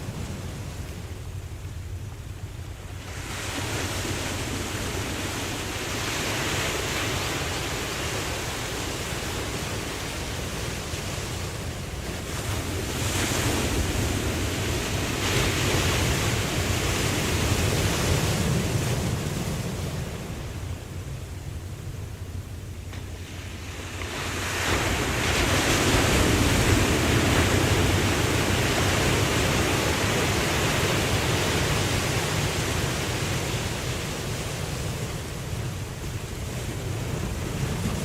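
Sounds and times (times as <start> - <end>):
ocean waves washing in: 0.0 - 38.0.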